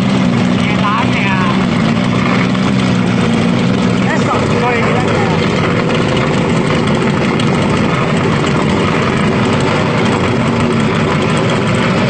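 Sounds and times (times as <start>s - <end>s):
outboard engine idling: 0.0s - 12.0s.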